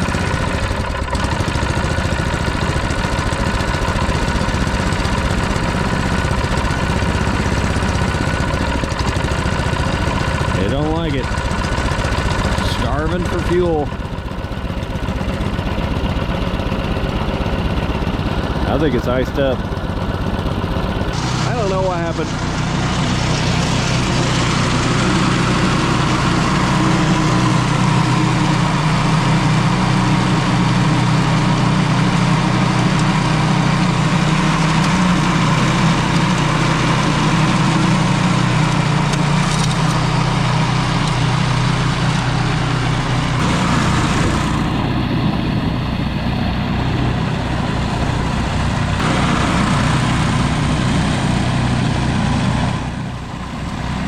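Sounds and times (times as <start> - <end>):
gasoline engine running: 0.0 - 54.0.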